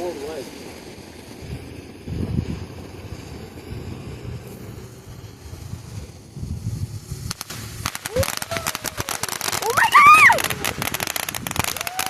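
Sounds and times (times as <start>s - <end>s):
firework crackling: 0.0s - 12.0s
wind buffeting microphone: 0.3s - 12.0s.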